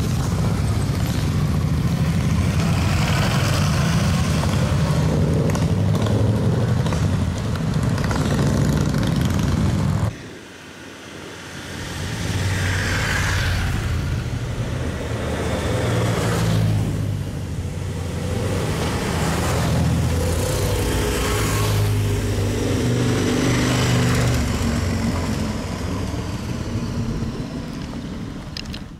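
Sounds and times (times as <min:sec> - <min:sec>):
motorcycles riding past: 0:00.0 - 0:10.1, 0:11.1 - 0:28.5.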